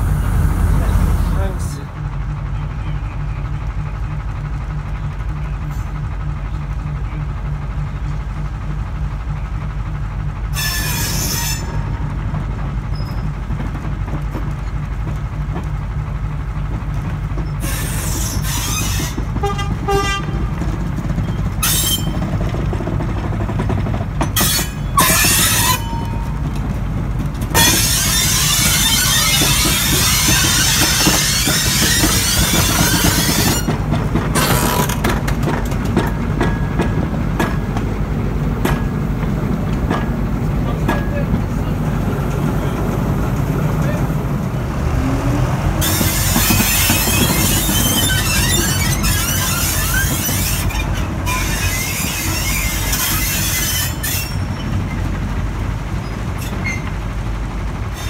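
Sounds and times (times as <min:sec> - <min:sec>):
train rushing past: 0:00.0 - 0:16.7, 0:17.5 - 0:58.0
diesel locomotive engine throb: 0:00.0 - 0:58.0.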